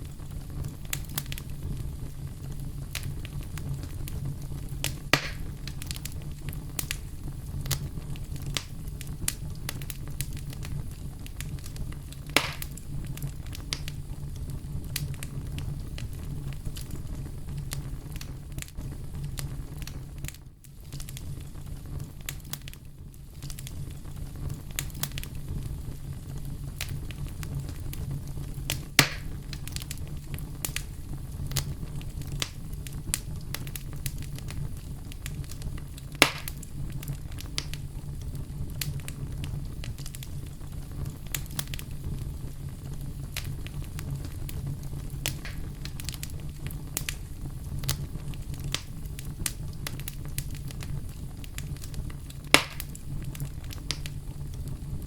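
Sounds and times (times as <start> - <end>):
campfire rumble: 0.0 - 55.0
fire crackles: 0.0 - 55.0
sharp fire pops: 0.0 - 55.0.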